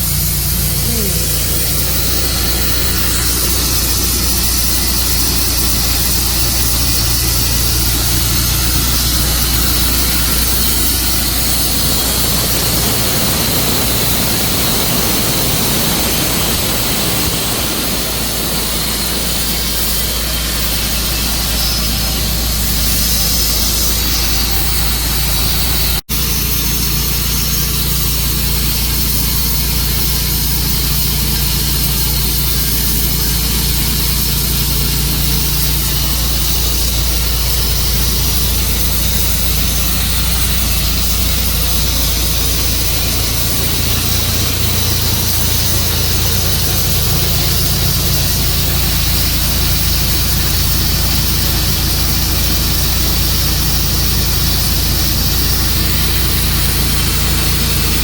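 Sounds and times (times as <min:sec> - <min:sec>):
saw blade cutting log: 0:00.0 - 0:58.0
sawmill engine drone: 0:00.0 - 0:58.0.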